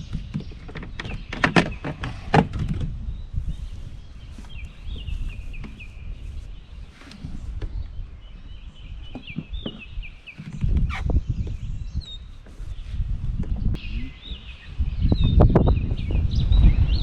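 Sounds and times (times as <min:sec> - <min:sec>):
bird chirping: 0:00.0 - 0:17.0
wind rumble on microphone: 0:00.0 - 0:17.0.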